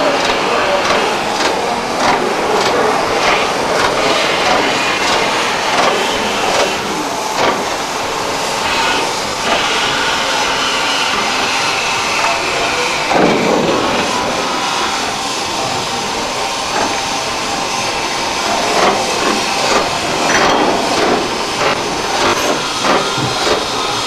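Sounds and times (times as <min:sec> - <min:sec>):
locomotive clanks and chuffs: 0:00.0 - 0:24.0
loud burst of noise: 0:00.0 - 0:24.0
steam hissing: 0:00.0 - 0:24.0.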